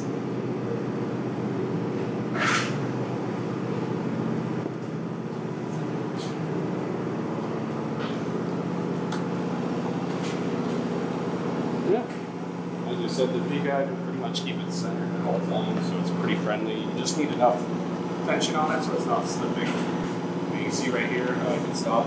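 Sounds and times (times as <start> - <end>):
conveyor motor humming: 0.0 - 22.0.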